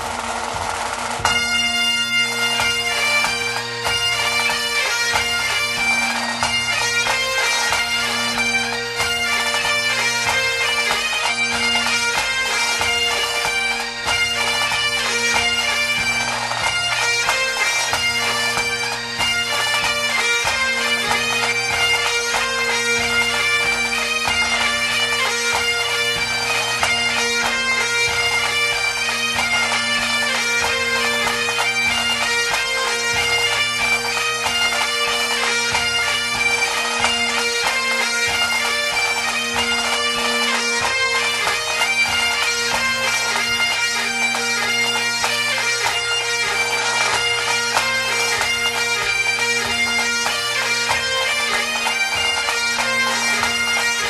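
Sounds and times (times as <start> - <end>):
bagpipe melody over drone: 0.0 - 54.0.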